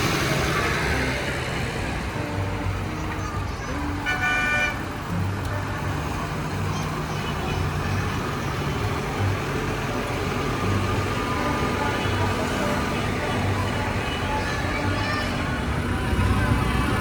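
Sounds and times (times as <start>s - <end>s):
street noise: 0.0s - 17.0s
tractor engines driving past: 0.0s - 17.0s.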